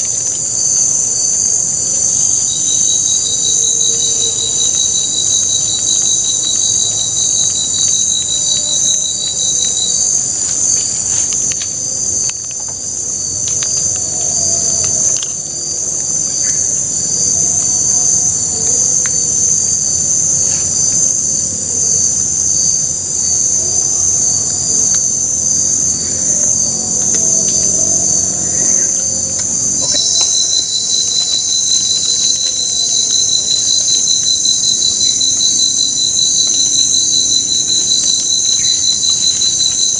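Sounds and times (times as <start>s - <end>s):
insects chirring chorus: 0.0s - 39.9s
rapidly pulsing insect trill: 0.0s - 39.9s.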